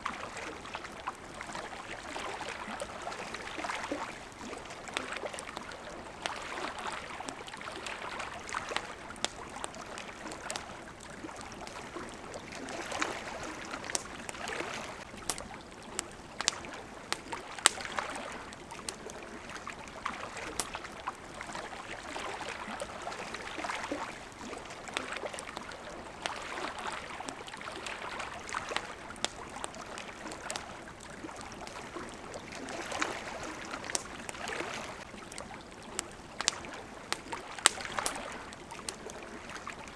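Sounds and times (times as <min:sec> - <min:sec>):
campfire crackling: 0:00.0 - 0:39.9
water lapping: 0:00.0 - 0:39.9.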